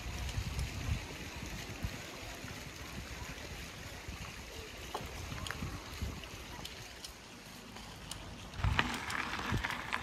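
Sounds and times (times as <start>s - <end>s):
wind rumble on microphone: 0.0s - 6.9s, 8.6s - 10.0s
fountain jets splashing into pond: 0.0s - 10.0s.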